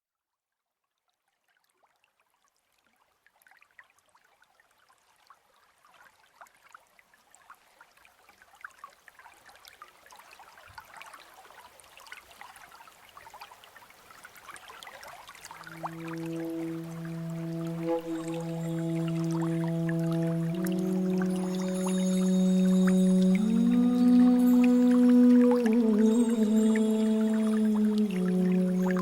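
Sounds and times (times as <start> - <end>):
babbling stream water: 5.6 - 29.0.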